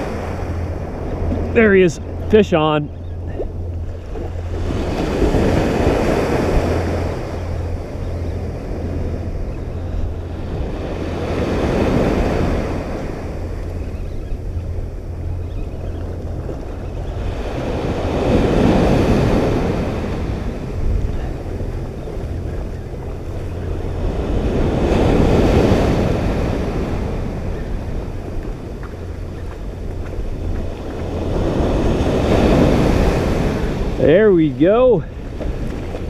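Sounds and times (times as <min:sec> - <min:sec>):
ocean surf breaking: 0:00.0 - 0:36.0
wind rumbling on microphone: 0:00.0 - 0:36.0.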